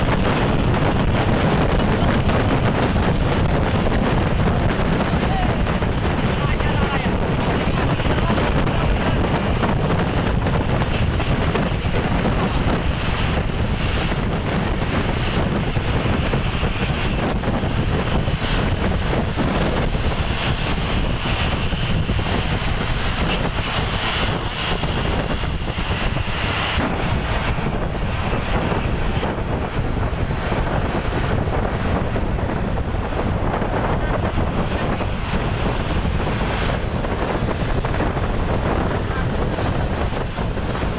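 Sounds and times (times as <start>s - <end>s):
road traffic noise: 0.0s - 40.9s
wind on microphone: 0.0s - 40.9s.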